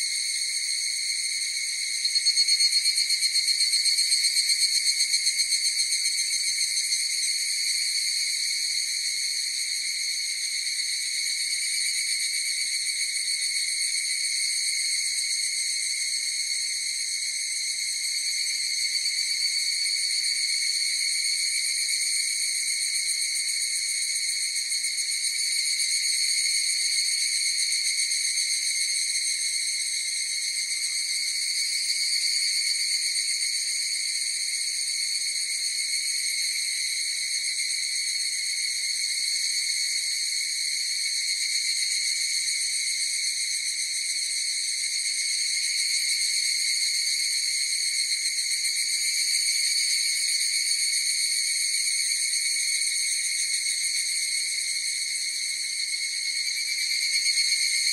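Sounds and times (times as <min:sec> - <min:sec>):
cicadas droning: 0:00.0 - 0:57.9.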